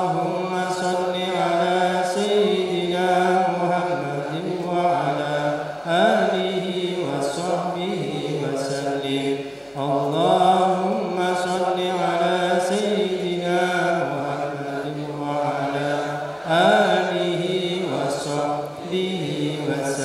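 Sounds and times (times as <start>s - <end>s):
group chanting melodically: 0.0s - 20.0s.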